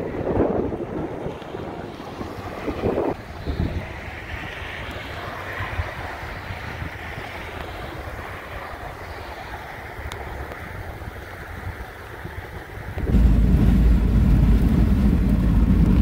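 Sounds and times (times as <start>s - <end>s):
car passing by: 0.0s - 16.0s
wind buffeting microphone: 0.0s - 16.0s.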